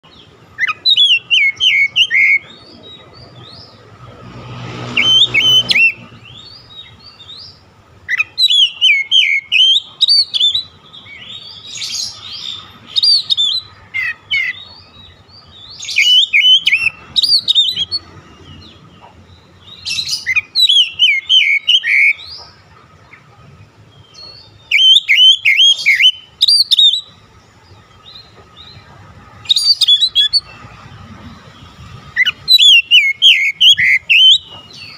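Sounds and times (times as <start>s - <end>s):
bird singing whistles and chirps: 0.0s - 3.8s, 4.9s - 22.5s, 24.0s - 27.2s, 29.4s - 30.7s, 31.6s - 34.9s.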